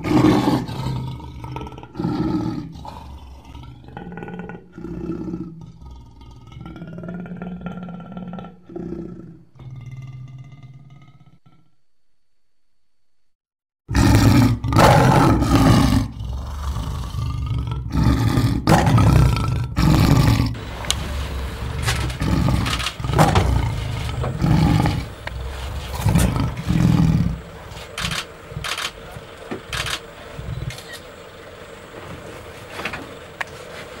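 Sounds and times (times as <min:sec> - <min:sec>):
lion roaring and growling: 0:00.0 - 0:11.7, 0:13.9 - 0:32.9.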